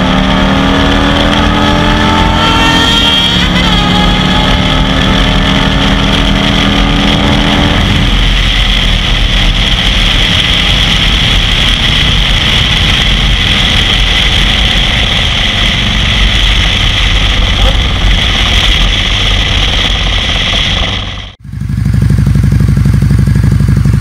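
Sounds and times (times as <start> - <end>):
wind rushing over microphone: 0.0 - 21.8
motorcycle engine running hard: 0.0 - 24.0.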